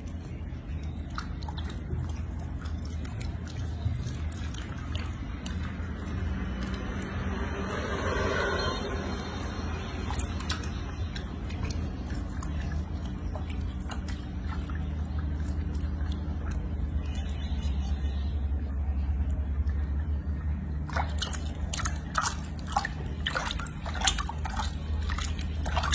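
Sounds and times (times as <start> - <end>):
sharp wet splashes: 0.0 - 17.8, 19.6 - 25.9
steady low hum: 0.0 - 25.9
water sloshing in a sink: 0.0 - 25.9.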